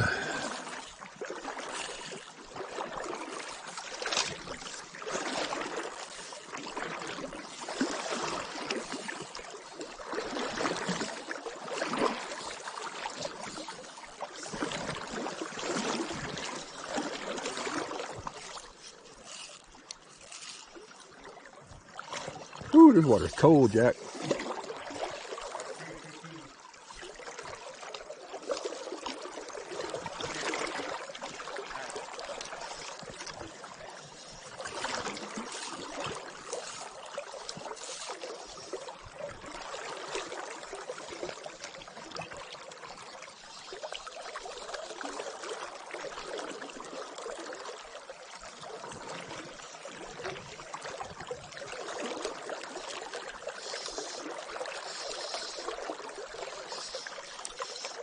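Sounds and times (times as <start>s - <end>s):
river water rushing and trickling: 0.0s - 58.0s.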